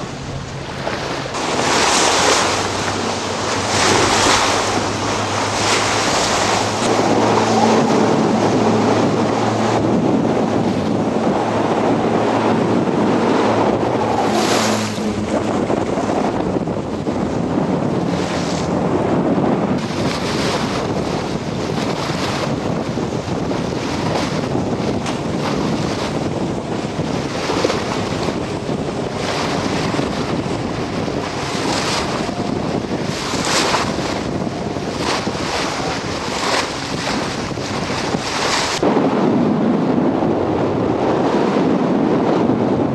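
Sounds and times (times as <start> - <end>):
water splashing: 0.0 - 38.9
motorboat engine: 0.0 - 42.9
wind buffeting microphone: 0.0 - 42.9.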